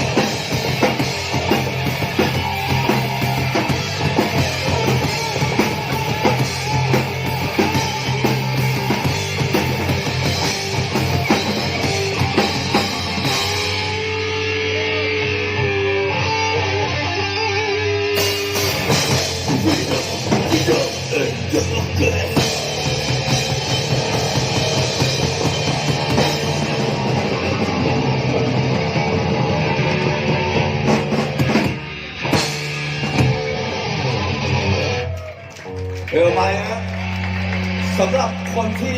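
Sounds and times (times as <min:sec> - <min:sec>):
punk band playing: 0:00.0 - 0:38.9.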